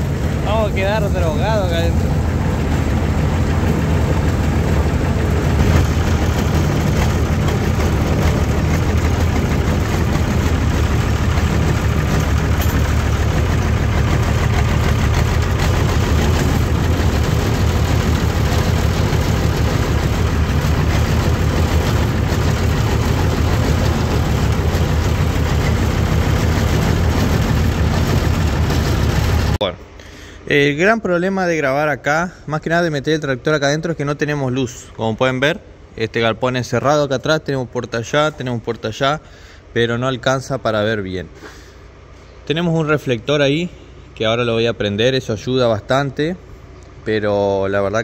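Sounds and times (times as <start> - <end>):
heavy engine running: 0.0 - 30.8, 31.6 - 40.0, 40.6 - 48.0.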